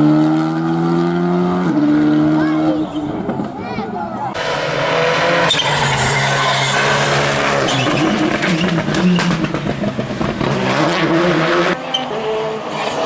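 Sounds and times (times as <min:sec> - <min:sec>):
rally car engine revving: 0:00.0 - 0:03.6, 0:04.3 - 0:13.0.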